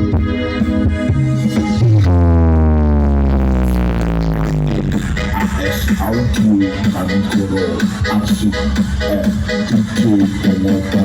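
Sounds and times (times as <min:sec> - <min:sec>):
loud electronic dance music: 0:00.0 - 0:11.0
deep bass note: 0:01.1 - 0:10.6.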